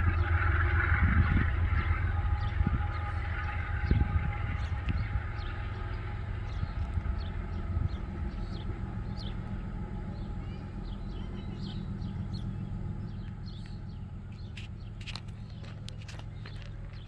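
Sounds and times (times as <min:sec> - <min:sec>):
low steady rumble: 0:00.0 - 0:17.0
birds chirping: 0:00.1 - 0:17.0.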